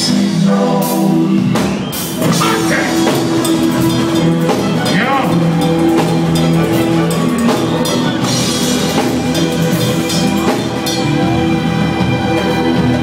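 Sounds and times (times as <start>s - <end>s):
reggae band playing: 0.0s - 13.0s.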